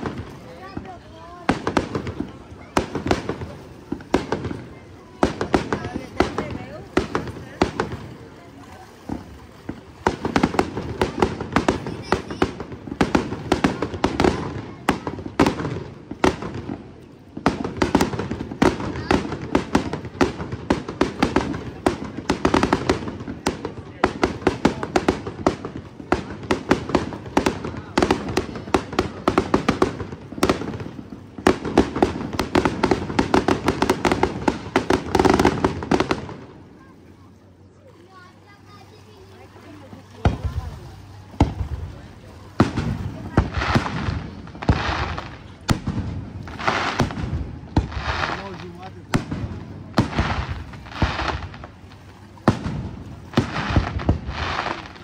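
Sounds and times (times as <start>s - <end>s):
fireworks bangs: 0.0s - 37.0s, 40.2s - 55.0s.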